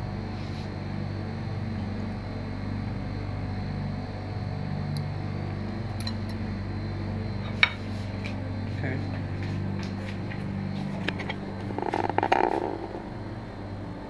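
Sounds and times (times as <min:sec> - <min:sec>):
equipment hum: 0:00.0 - 0:14.0.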